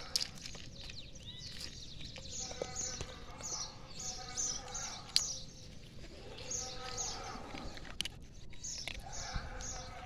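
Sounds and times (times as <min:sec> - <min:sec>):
puppy crunching dry kibble: 0:00.0 - 0:03.7, 0:04.3 - 0:10.0.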